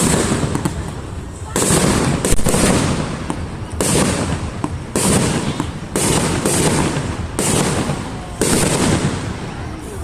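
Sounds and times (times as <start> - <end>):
firework bangs: 0.0 - 10.0
firework crackling tails: 0.0 - 10.0.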